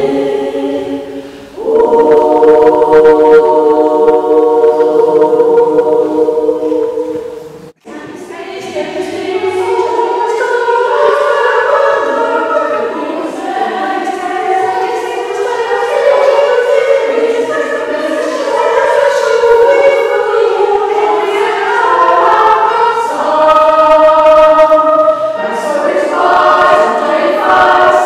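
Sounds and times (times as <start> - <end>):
women singing in harmony: 0.0 - 28.0.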